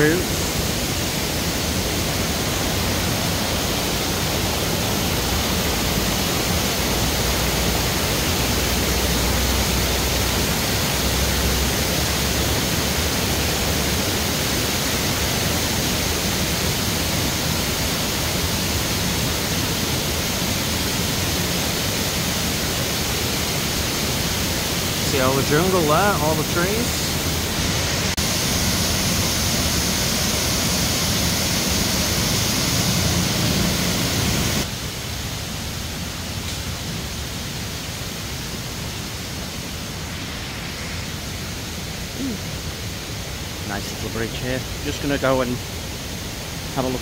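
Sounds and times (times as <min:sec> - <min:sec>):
waterfall roaring: 0:00.0 - 0:47.0.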